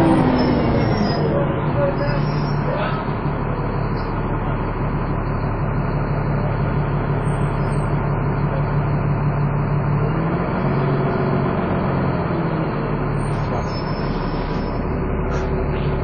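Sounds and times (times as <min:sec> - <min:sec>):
bus engine whining under load: 0:00.0 - 0:16.0.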